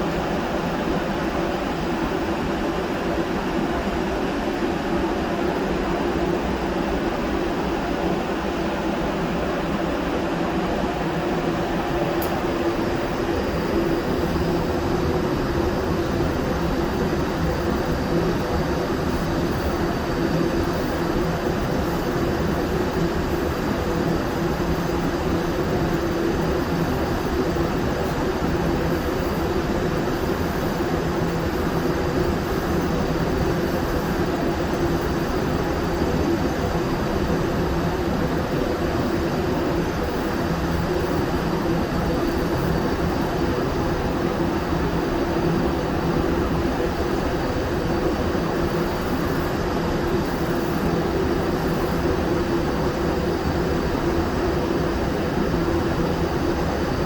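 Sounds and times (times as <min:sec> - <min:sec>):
machine drone with low hum: 0:00.0 - 0:57.0.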